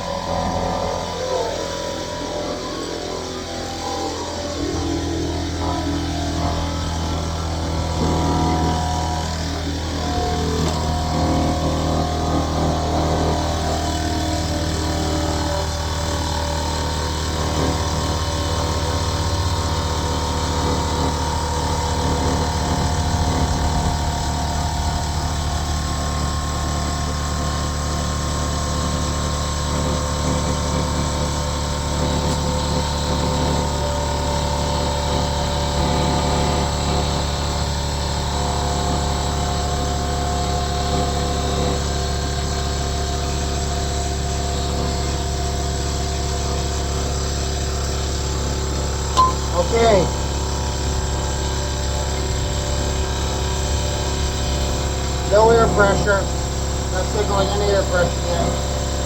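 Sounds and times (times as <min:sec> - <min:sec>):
air compressor running: 0:00.0 - 0:59.0.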